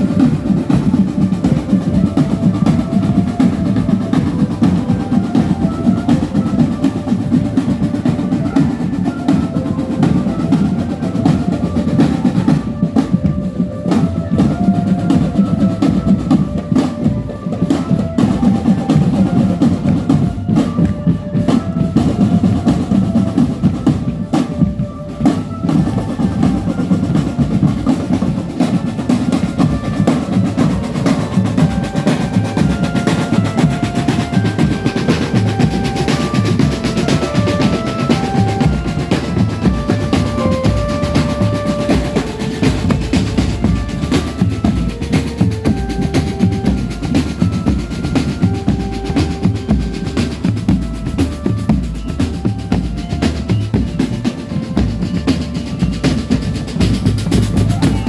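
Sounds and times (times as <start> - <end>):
bass and tenor drums: 0.0 - 58.0
snare drums rolling: 0.0 - 58.0
stepping melody: 0.0 - 58.0.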